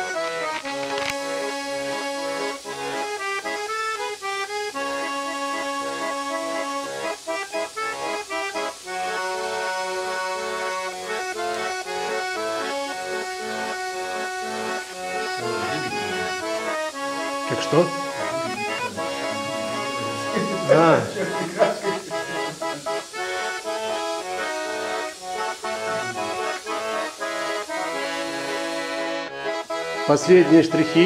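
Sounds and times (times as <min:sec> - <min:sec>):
instrumental background music: 0:00.0 - 0:31.0.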